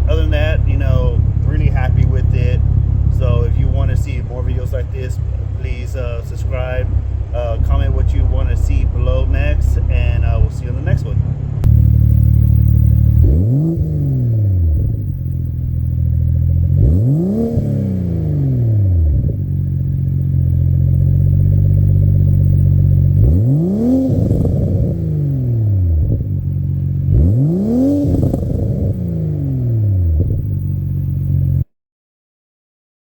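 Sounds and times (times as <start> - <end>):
car engine idling and revving: 0.0 - 31.7.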